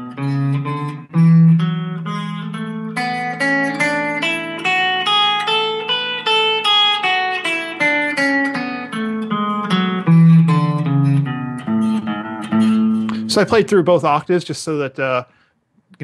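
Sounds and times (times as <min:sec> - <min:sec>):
guitar playing a scale: 0:00.0 - 0:15.2.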